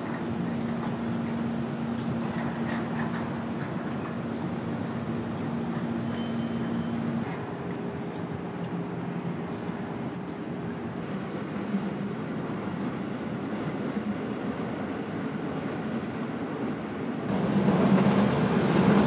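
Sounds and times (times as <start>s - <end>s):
urban background rumble: 0.0s - 19.0s.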